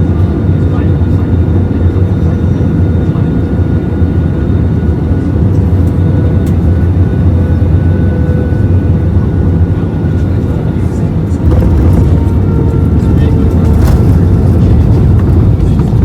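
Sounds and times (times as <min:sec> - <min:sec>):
jet engine and airflow rumble: 0:00.0 - 0:16.0.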